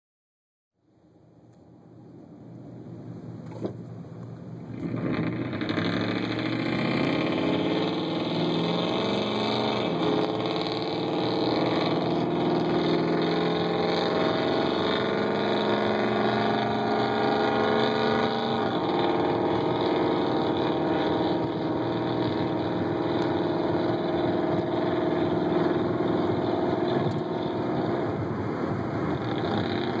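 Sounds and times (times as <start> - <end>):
loud vee eight engine driving: 2.8 - 30.0.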